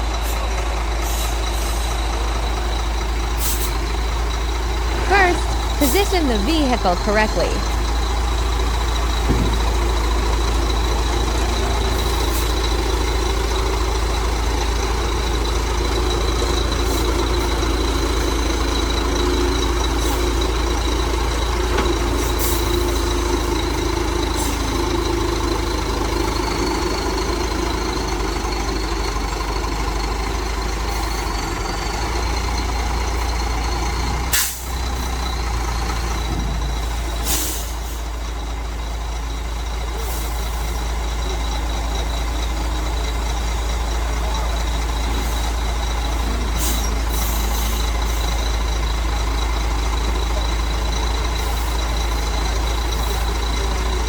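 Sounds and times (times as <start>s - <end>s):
heavy truck engine running: 0.0s - 54.0s.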